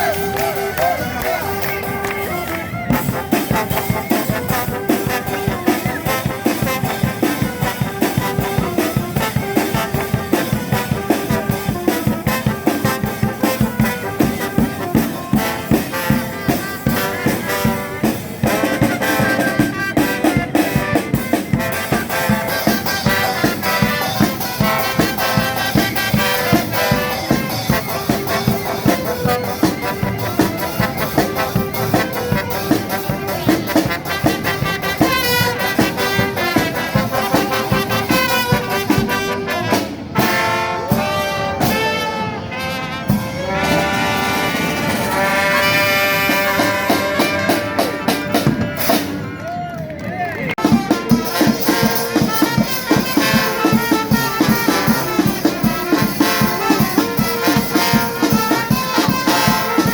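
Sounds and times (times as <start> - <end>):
steady drum beat: 0.0 - 42.0, 50.5 - 59.9
brass band playing: 0.0 - 49.9, 50.5 - 59.9
trumpets and trombones: 0.0 - 49.9, 50.5 - 59.9.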